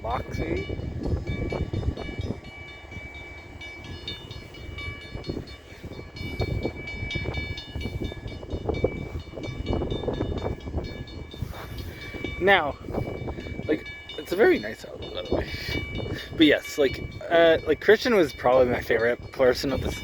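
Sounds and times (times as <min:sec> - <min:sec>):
high ringing tone: 0:00.0 - 0:20.0
locomotive rumble: 0:00.0 - 0:20.0.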